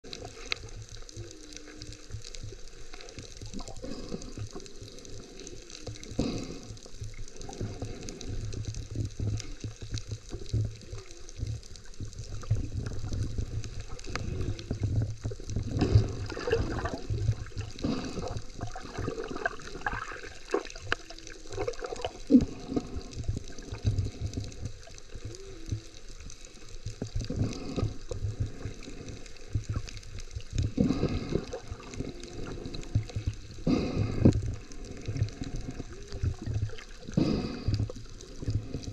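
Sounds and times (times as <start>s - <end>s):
water sloshing underwater: 0.0s - 38.9s.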